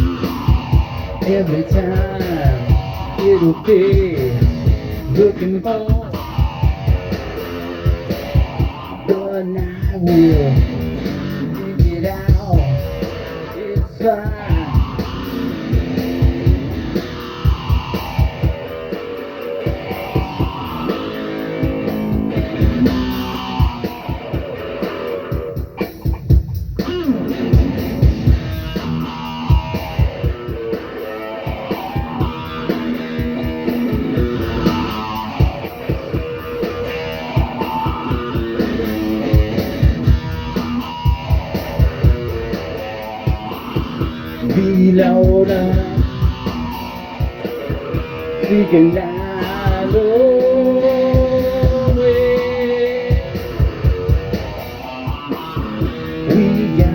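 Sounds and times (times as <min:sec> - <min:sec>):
instrumental rock music: 0:00.0 - 0:56.9.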